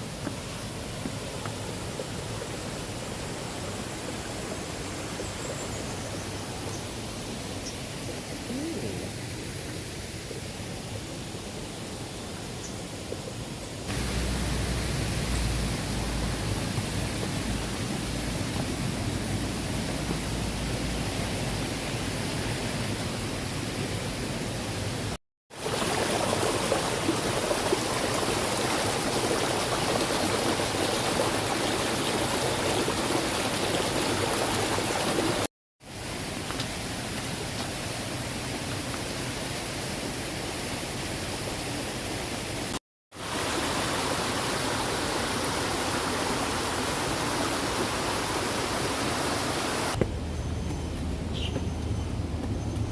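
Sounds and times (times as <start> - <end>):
rushing flowing water: 0.0 - 12.6, 13.8 - 50.0.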